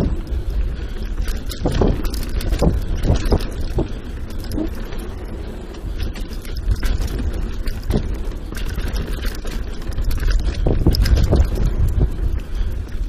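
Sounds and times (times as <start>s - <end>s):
bike knocks and rattles: 0.0s - 13.0s
bike tyre noise: 0.0s - 13.0s
wind rumble on microphone: 0.0s - 13.0s.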